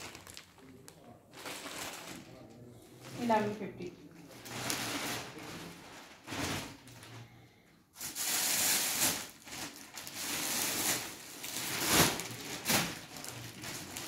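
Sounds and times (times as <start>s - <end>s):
plastic bags crinkling: 0.0s - 7.4s, 8.0s - 14.0s.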